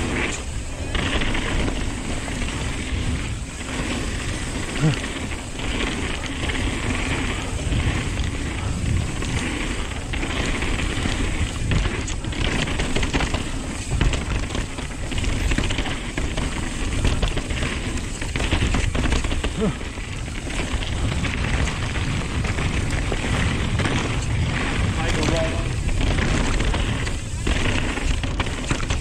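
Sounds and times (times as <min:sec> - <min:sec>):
bike rattling and clicking: 0:00.0 - 0:29.0
tyres rushing over dirt and leaves: 0:00.0 - 0:29.0
wind rumbling on microphone: 0:00.0 - 0:29.0.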